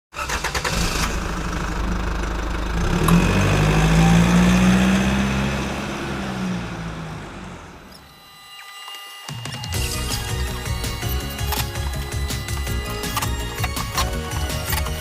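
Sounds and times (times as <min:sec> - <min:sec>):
vehicle engine starting and revving: 0:00.1 - 0:07.9, 0:10.0 - 0:15.0.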